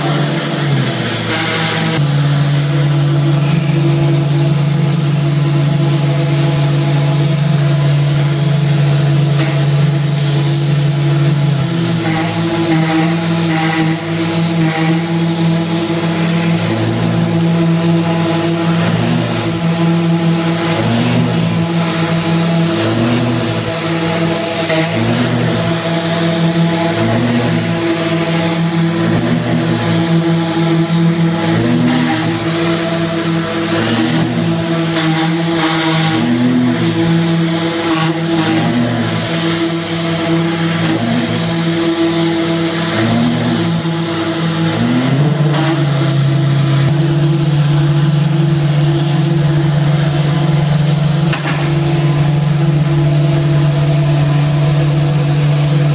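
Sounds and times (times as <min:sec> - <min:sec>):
engine-driven machine droning: 0:00.0 - 0:55.9.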